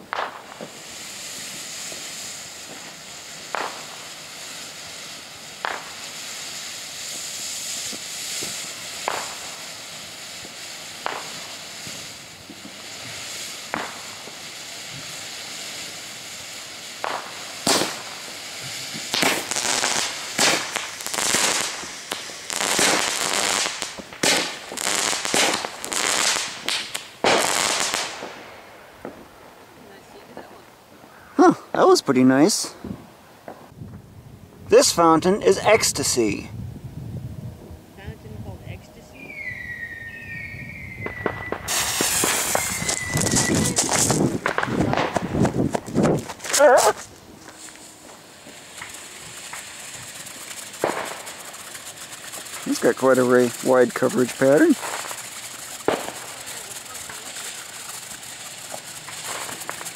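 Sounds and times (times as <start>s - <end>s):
firework sparks hissing: 0.0s - 30.8s, 34.7s - 36.6s, 37.9s - 59.9s
dense crackling and popping: 0.0s - 32.7s, 41.0s - 59.9s
firework sharp cracks: 0.0s - 33.8s, 39.2s - 59.9s.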